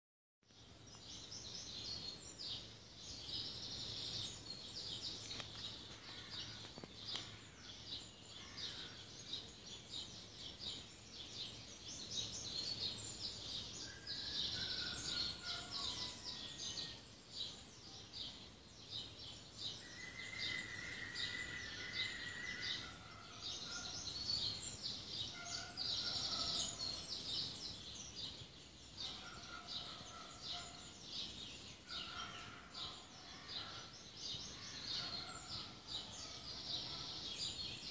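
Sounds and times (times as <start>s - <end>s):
small birds chirping: 0.5s - 37.9s.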